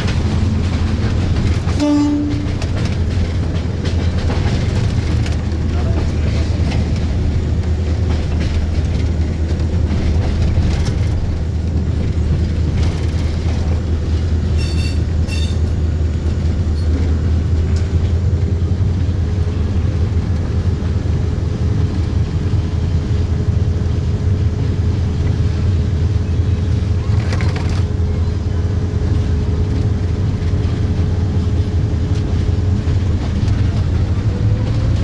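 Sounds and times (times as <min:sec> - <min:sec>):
locomotive engine drone: 0:00.0 - 0:35.0
wheels rumbling on rails: 0:00.0 - 0:35.0.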